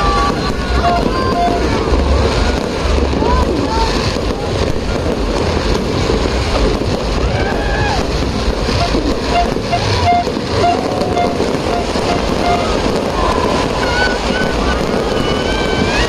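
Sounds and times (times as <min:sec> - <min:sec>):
outdoor crowd hubbub: 0:00.0 - 0:16.0
wind buffeting microphone: 0:00.0 - 0:16.0.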